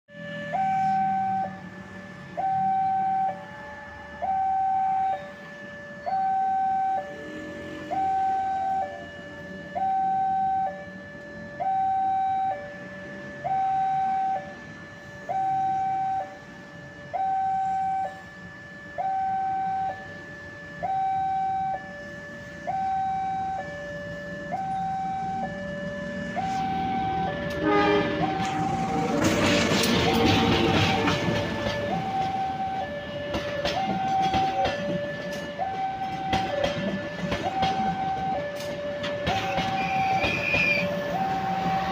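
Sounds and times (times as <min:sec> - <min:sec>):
diesel train rumble: 0:00.1 - 0:41.9
two-tone railway warning alarm: 0:00.1 - 0:41.9.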